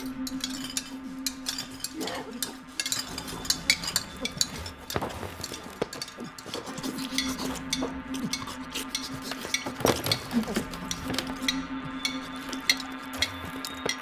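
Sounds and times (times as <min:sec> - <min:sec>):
spoons clinking on china bowls: 0:00.0 - 0:14.0
steady low hum: 0:00.0 - 0:14.0.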